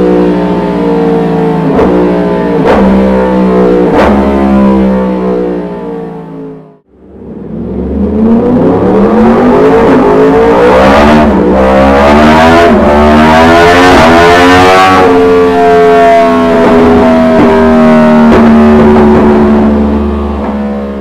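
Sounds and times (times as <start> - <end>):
motorcycle engine revving: 0.0 - 6.2, 7.1 - 21.0.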